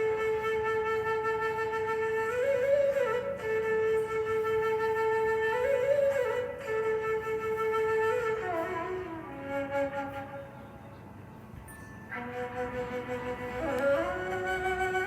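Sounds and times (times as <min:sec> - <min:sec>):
solo flute: 0:00.0 - 0:15.0.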